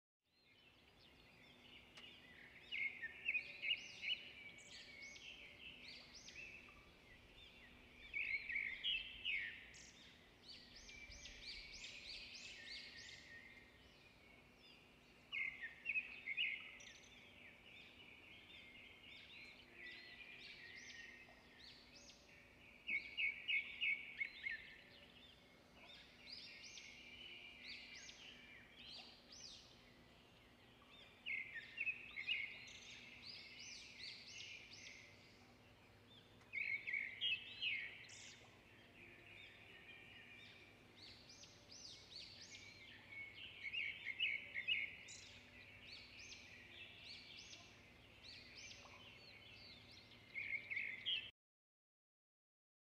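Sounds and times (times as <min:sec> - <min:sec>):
small birds chirping: 0:00.3 - 0:51.3.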